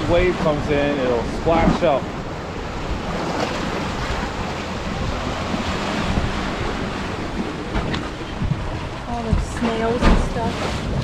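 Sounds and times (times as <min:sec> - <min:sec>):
surf washing over rocks: 0:00.0 - 0:11.0
wind buffeting microphone: 0:00.0 - 0:11.0.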